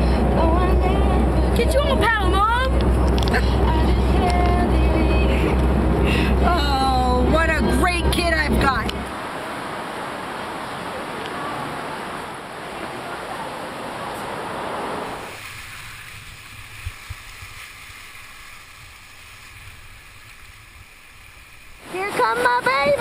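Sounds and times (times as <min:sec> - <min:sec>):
river rapids rushing: 0:00.0 - 0:23.0.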